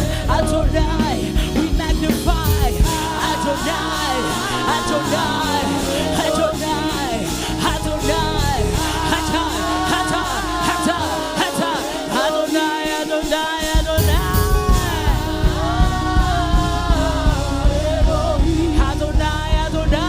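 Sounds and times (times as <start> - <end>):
bass and drums beat: 0.0 - 20.0
gospel singing: 0.0 - 20.0.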